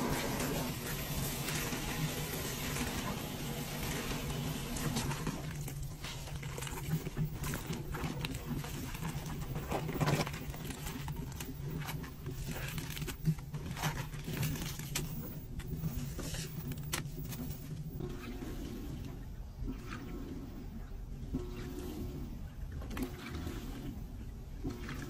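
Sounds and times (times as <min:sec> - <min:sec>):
washing machine hum: 0:00.0 - 0:25.0
water sloshing and splashing: 0:00.0 - 0:25.0.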